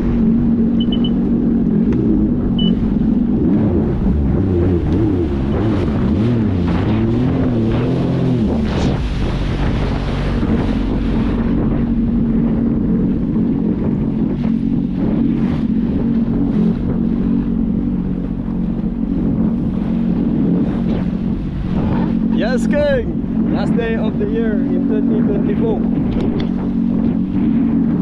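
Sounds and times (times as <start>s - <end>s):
jet ski engine running: 0.0s - 28.0s
wind buffeting microphone: 0.0s - 28.0s.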